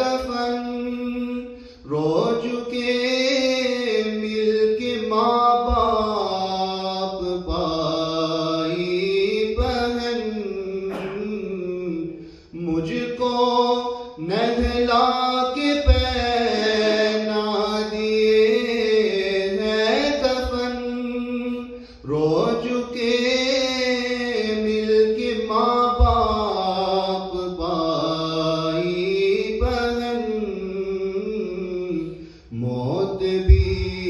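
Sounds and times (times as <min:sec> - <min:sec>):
man singing unaccompanied: 0:00.0 - 0:34.0.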